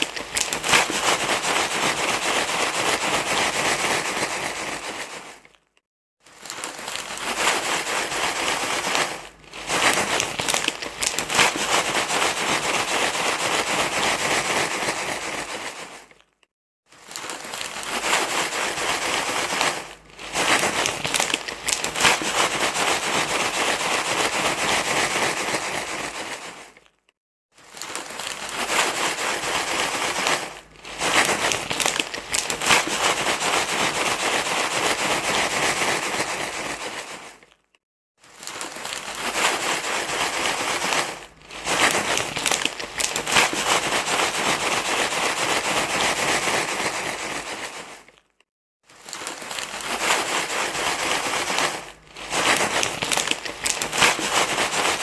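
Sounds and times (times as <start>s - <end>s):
crinkling rustling noise: 0.0s - 55.0s.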